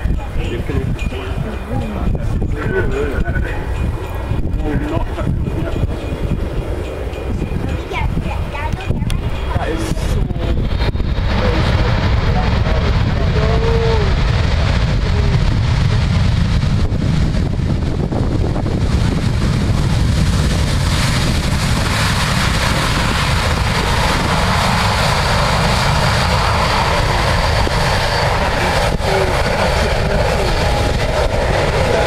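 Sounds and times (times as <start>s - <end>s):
jet rumble: 0.0s - 32.0s.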